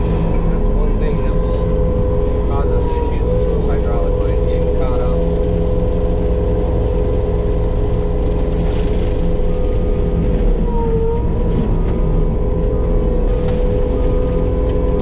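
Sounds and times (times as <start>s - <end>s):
diesel engine and hydraulics whining: 0.0s - 15.0s.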